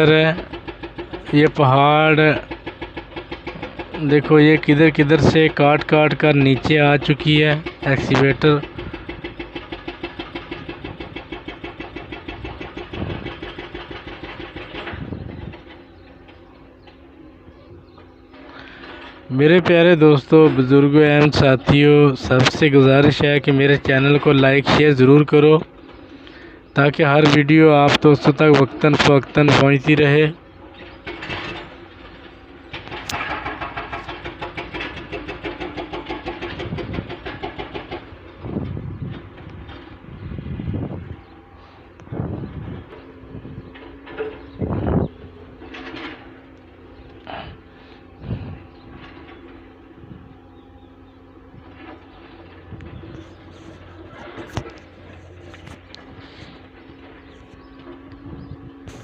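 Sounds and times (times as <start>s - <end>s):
hydraulic breaker hammering rock: 0.0s - 16.6s, 18.5s - 50.2s, 50.8s - 59.0s
excavator engine: 0.0s - 59.0s.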